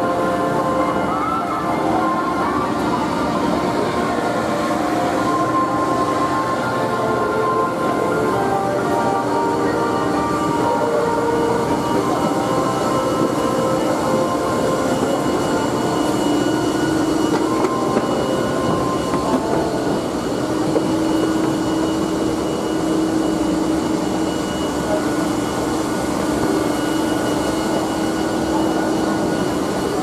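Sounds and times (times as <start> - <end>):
steady mechanical drone: 0.0 - 30.0.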